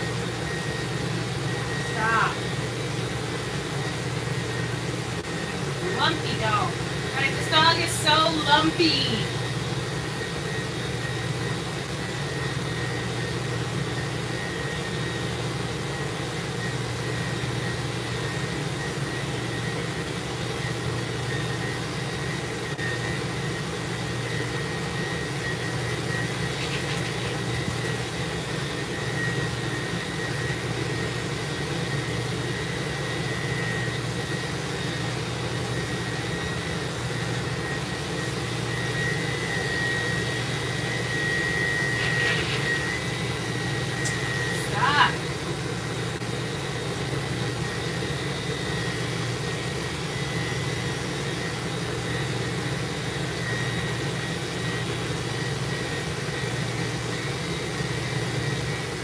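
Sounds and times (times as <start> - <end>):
machine drone with high whine: 0.0 - 59.0.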